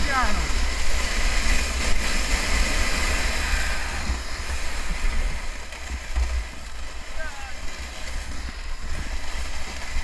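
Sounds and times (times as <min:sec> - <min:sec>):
sled scraping over icy snow: 0:00.0 - 0:10.0
wind noise on microphone: 0:00.0 - 0:10.0.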